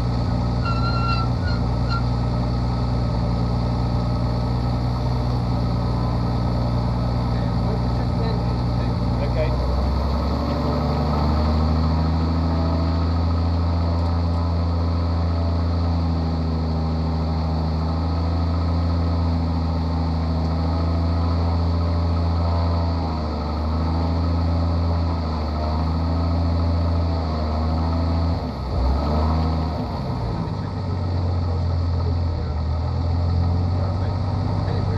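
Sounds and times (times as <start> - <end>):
propeller aircraft engine running: 0.0 - 34.9.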